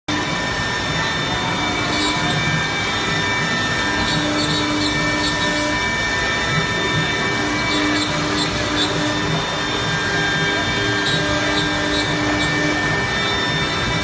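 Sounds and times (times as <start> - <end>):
cnc router running: 0.1 - 14.0
high steady whining tones: 0.1 - 14.0.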